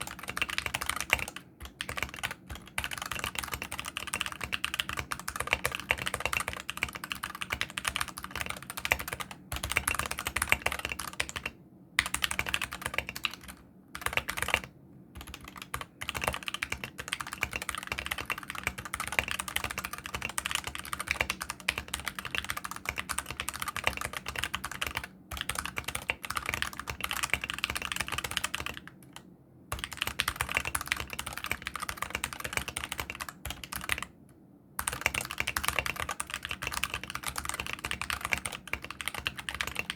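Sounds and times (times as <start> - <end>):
fast typing on mechanical keyboard: 0.0 - 29.0, 29.7 - 34.1, 34.8 - 39.9.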